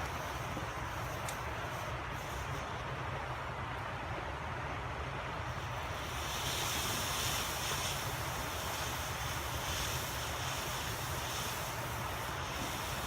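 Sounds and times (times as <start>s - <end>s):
fountain firework spraying hiss: 0.0s - 3.1s, 5.3s - 13.0s.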